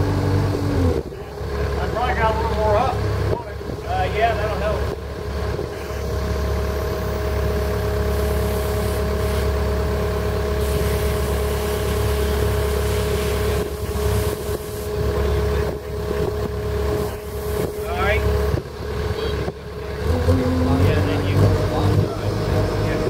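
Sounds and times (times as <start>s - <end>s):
engine running with whine: 0.0s - 23.0s.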